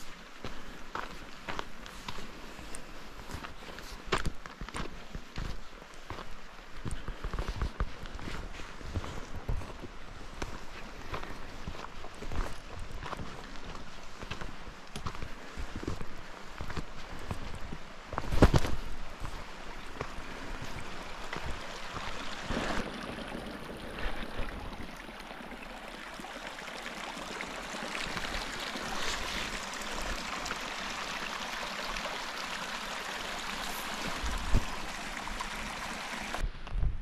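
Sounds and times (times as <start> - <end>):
creek running over rocks: 0.0 - 36.4.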